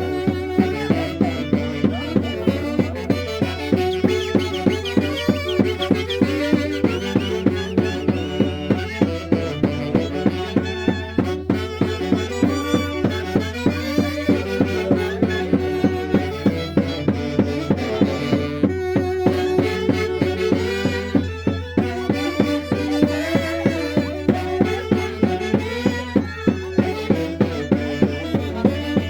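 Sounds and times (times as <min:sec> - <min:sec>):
band playing a melody: 0:00.0 - 0:29.0
pulsing percussion beat: 0:00.0 - 0:29.0.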